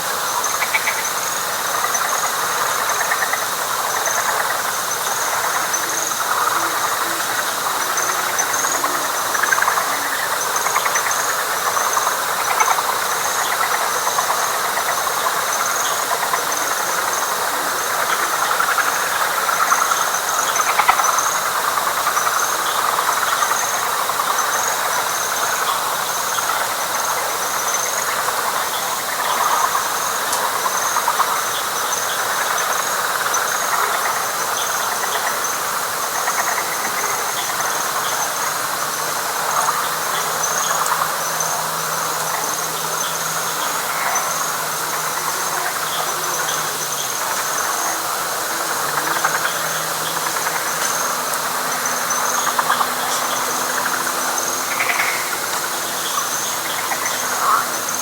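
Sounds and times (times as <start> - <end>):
frogs calling in chorus: 0.0 - 58.0
high insect drone: 0.0 - 58.0
rhythmic insect chirping: 0.0 - 58.0.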